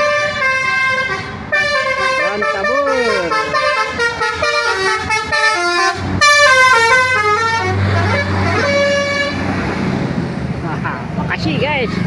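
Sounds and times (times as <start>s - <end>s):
multi-tone bus horn melody: 0.0s - 10.2s
bus engine running: 0.0s - 12.0s.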